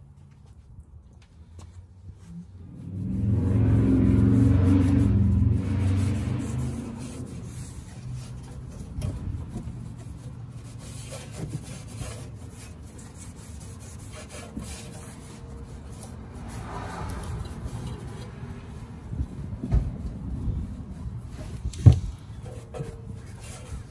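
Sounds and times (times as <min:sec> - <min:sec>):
cloth rag wiping metal: 0:03.8 - 0:23.9.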